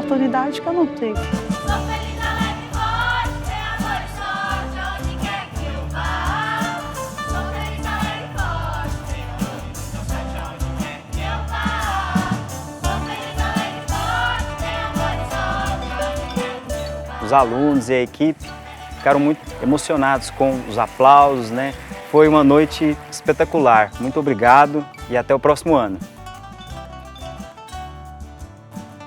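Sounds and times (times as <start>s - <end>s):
music with singing voices: 0.0s - 29.0s.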